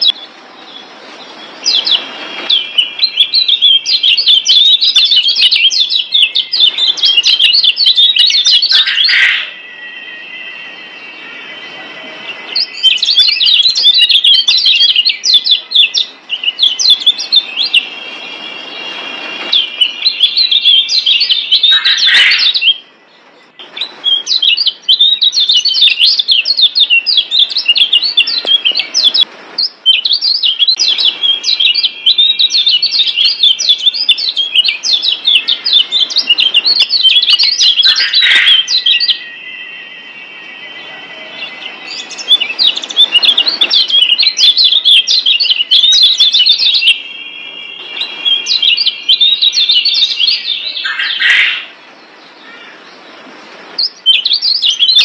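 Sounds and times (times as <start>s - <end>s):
bird singing high chattering song: 0.0s - 55.0s
bird trilling: 1.6s - 22.9s, 23.6s - 51.8s.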